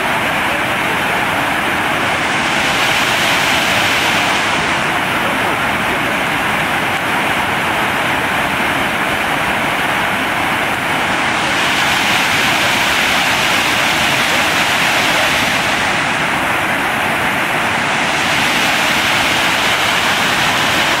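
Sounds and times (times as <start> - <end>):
waterfall rushing over rocks: 0.0 - 21.0.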